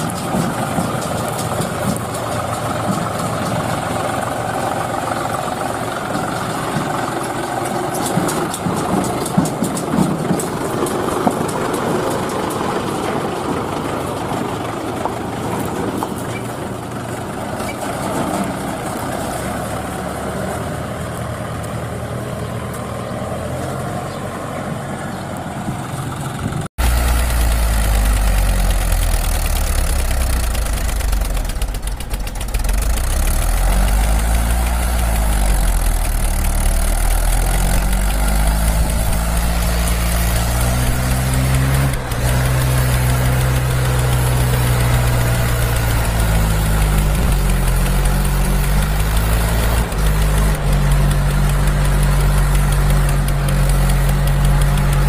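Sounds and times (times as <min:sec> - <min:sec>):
tractor engine idling and revving: 0:00.0 - 0:55.0.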